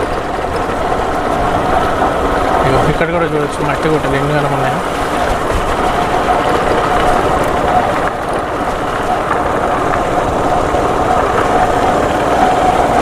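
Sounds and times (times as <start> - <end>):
motorbike engine running: 0.0 - 13.0
wind on microphone: 0.0 - 13.0.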